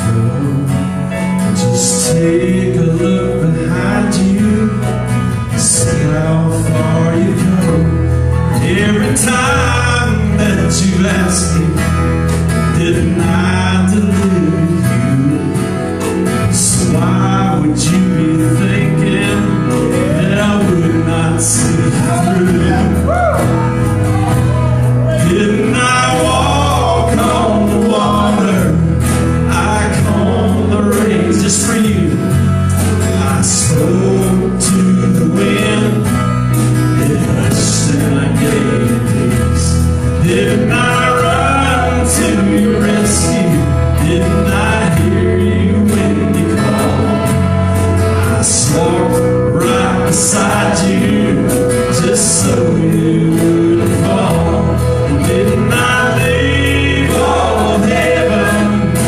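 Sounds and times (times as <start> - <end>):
acoustic guitar: 0.0 - 59.0
bass: 0.0 - 59.0
man singing: 0.0 - 59.0.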